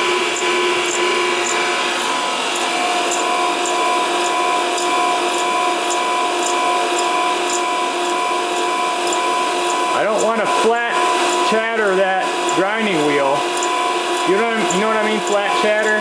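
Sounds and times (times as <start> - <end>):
grinding wheel whine: 0.0 - 16.0.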